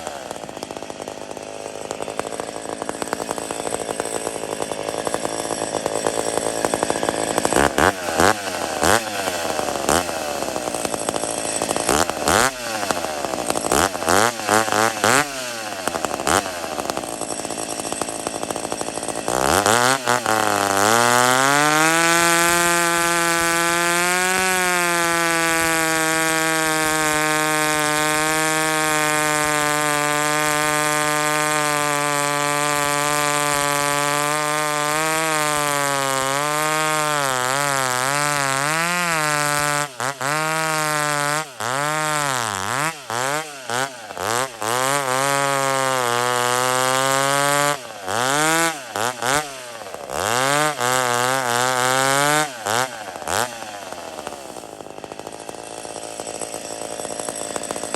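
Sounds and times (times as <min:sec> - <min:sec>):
chainsaw revving and cutting wood: 0:00.0 - 0:57.9.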